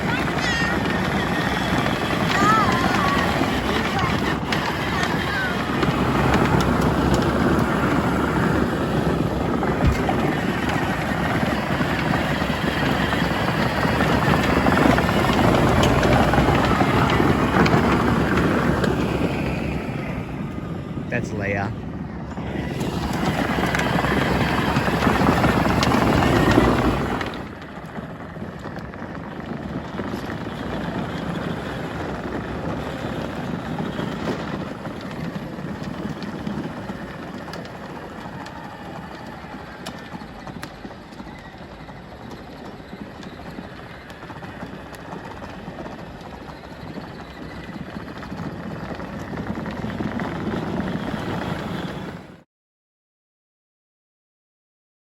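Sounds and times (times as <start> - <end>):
road noise: 0.0 - 52.4
truck engine rumble: 0.0 - 52.4.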